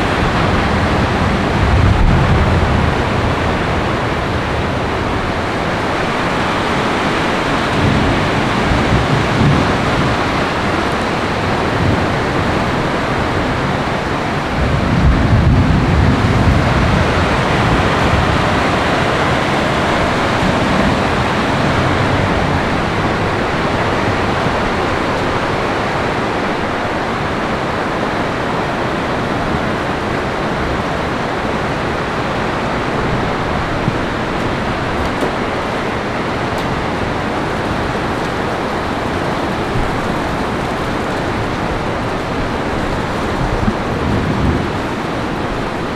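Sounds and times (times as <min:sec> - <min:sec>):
heavy rain rushing: 0:00.0 - 0:45.9
low thunder rumble: 0:00.0 - 0:45.9.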